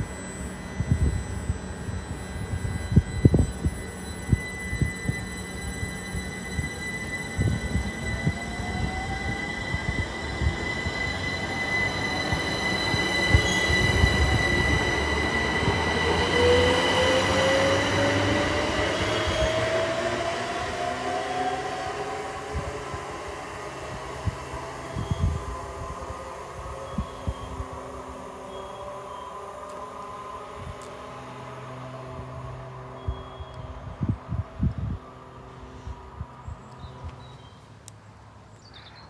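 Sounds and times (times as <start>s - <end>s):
train high-pitched whine: 0.0s - 37.7s.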